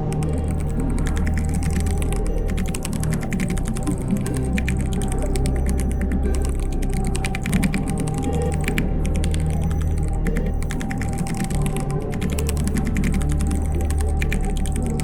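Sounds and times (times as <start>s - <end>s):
background music with bass: 0.0s - 15.0s
fast typing on keyboard: 0.0s - 15.0s.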